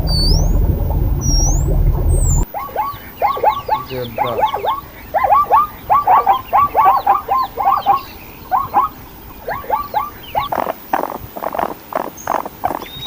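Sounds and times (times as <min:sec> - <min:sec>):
animal hoarse pulses: 0:02.2 - 0:13.0
animal squeaky calls: 0:02.3 - 0:13.0.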